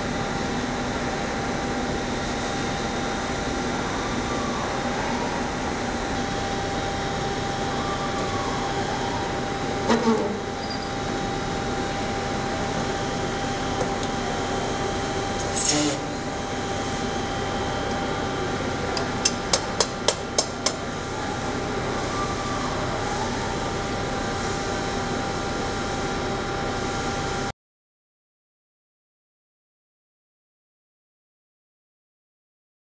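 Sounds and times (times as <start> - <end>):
machinery hum: 0.0 - 27.5.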